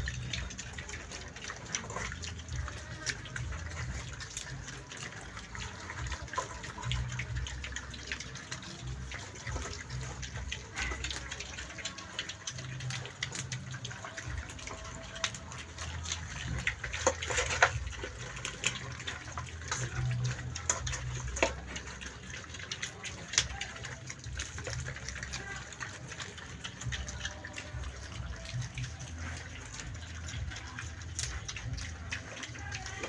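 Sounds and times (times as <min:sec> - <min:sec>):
pigs grunting: 0:00.0 - 0:33.0
water splashing: 0:00.0 - 0:33.0.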